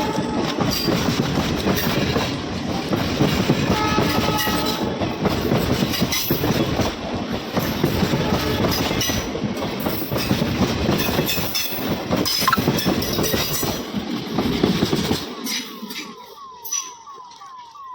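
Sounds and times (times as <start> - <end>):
train wheels clattering: 0.0 - 17.0
train rumble: 0.0 - 17.8.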